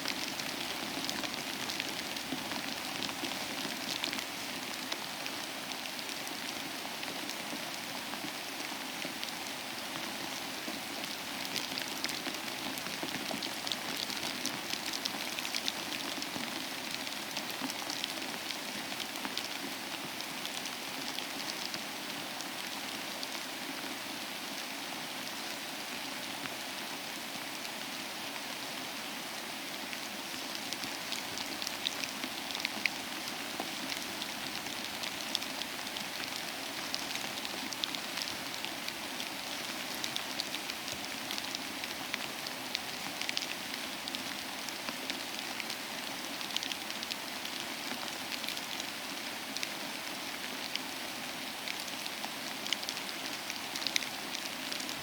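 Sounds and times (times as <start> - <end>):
rain hiss with ticking drops: 0.0 - 55.0.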